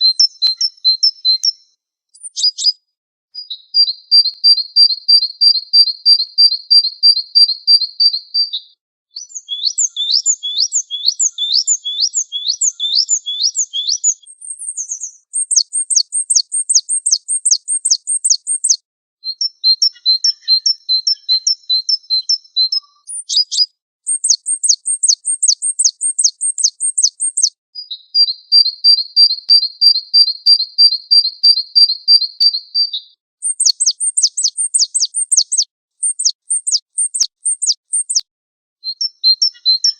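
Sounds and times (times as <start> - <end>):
songbirds singing trills and whistles: 0.0 - 2.8, 3.4 - 39.9.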